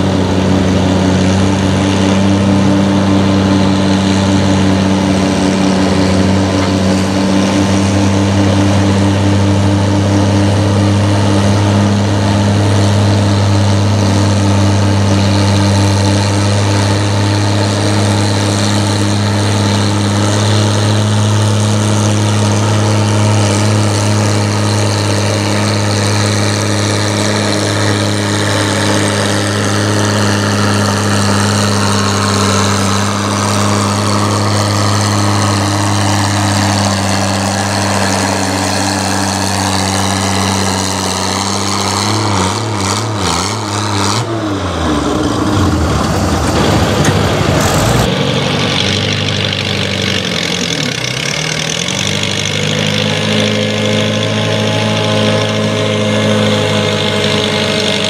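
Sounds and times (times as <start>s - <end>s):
tractor engine running hard: 0.0s - 58.0s.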